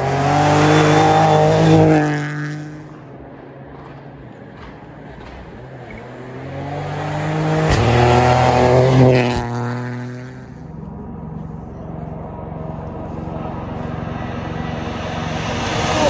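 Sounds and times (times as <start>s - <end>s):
rally car passing at high revs: 0.0s - 16.0s.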